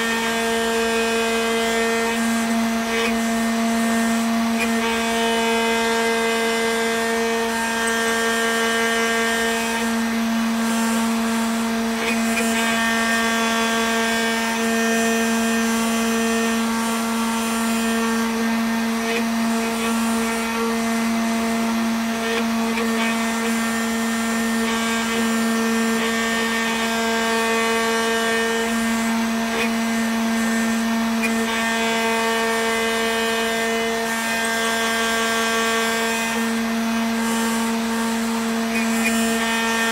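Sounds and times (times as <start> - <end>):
router spindle motor carving wax: 0.0 - 39.9.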